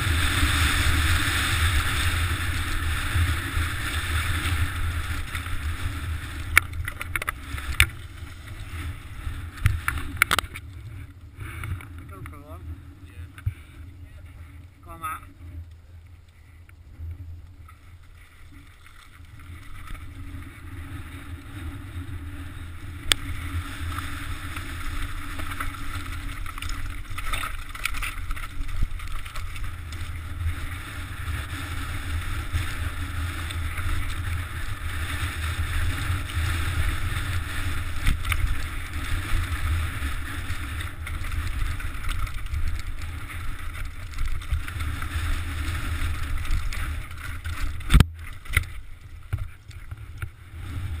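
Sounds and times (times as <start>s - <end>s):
bike tyres crunching over stones: 0.0s - 51.0s
wind rumbling on microphone: 0.0s - 51.0s.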